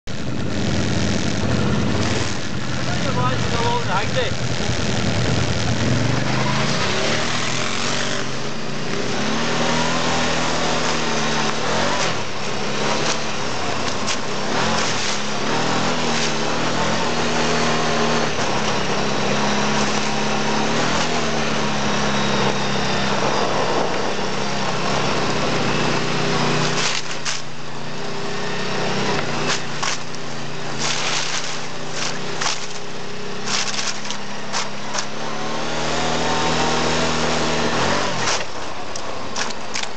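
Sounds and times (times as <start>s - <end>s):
quad bike engine revving: 0.0s - 39.9s
rushing ride noise: 0.1s - 39.9s.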